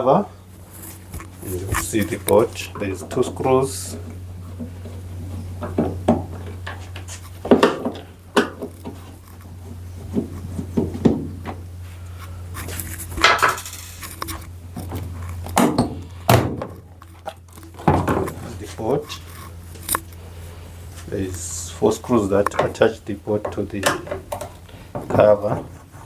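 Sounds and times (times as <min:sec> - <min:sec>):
hand tools knocking and scraping: 0:00.8 - 0:20.4, 0:21.0 - 0:26.0.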